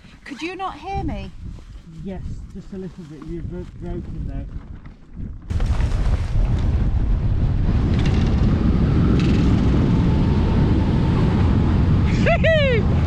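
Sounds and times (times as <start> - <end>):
strong wind rushing over microphone: 0.7 - 13.0.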